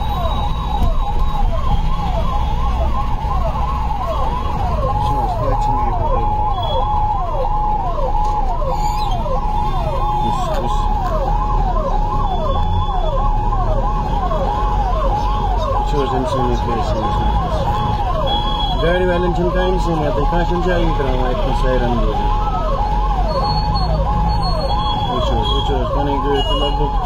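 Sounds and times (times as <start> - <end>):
ambulance siren: 0.0 - 27.0
vehicle engine and road noise: 0.0 - 27.0.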